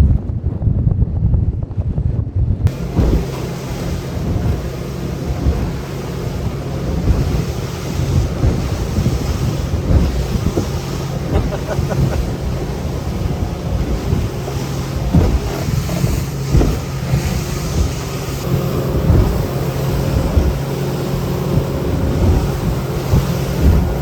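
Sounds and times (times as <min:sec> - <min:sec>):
waves slapping against hull: 0:00.0 - 0:24.0
wind buffeting microphone: 0:00.0 - 0:24.0
boat motor humming: 0:02.7 - 0:24.0.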